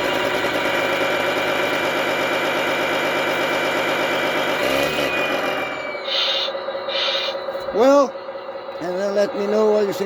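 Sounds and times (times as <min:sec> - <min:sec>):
simulated heavy machine engine: 0:00.0 - 0:10.0.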